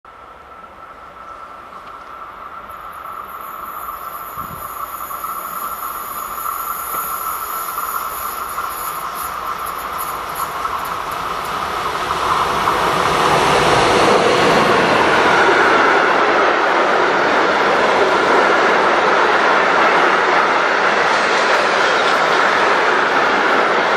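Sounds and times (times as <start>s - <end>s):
electric locomotive whine: 0.1s - 23.9s
wheels rumbling on rail: 0.1s - 23.9s.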